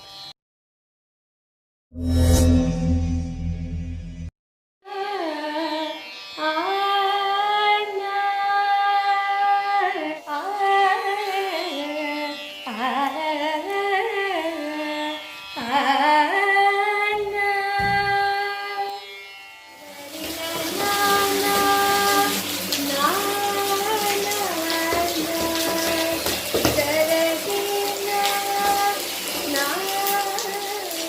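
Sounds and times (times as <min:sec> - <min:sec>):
high voice singing long notes: 0:04.9 - 0:19.1, 0:19.8 - 0:31.0.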